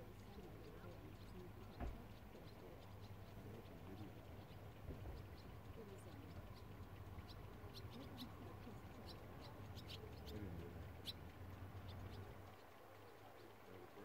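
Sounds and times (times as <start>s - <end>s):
murmur of distant voices: 0.0s - 14.0s
high bird chirps: 0.2s - 13.5s.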